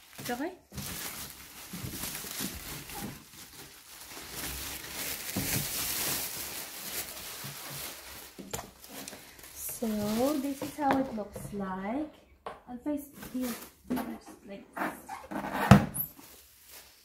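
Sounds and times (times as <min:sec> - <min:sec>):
plastic bag rustling and crinkling: 0:00.0 - 0:11.6, 0:13.1 - 0:13.9, 0:15.1 - 0:17.0.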